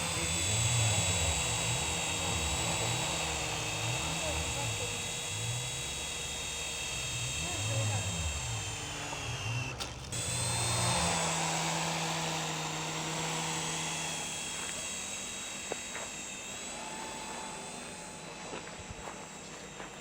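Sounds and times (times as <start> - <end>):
toy helicopter motors whining: 0.0 - 20.0.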